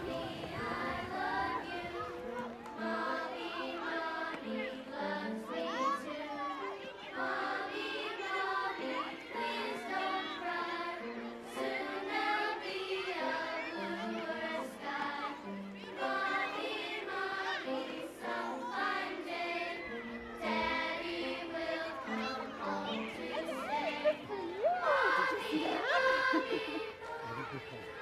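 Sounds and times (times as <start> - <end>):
choir singing: 0.0 - 28.0.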